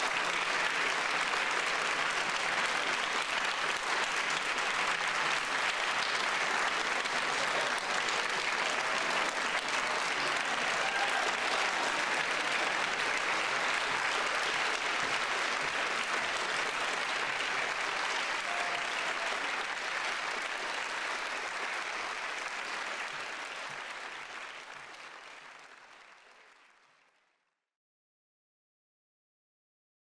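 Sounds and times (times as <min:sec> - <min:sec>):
concert audience applauding: 0:00.0 - 0:27.5.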